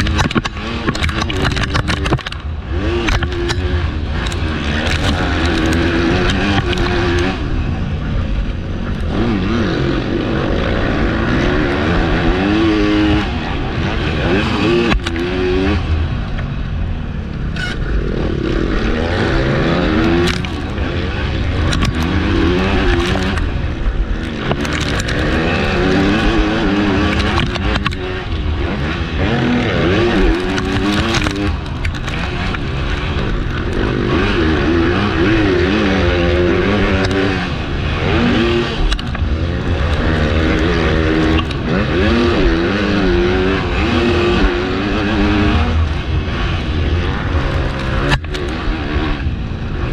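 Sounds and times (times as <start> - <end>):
broad rushing noise: 0.0 - 49.9
motocross bike engine revving: 0.0 - 49.9.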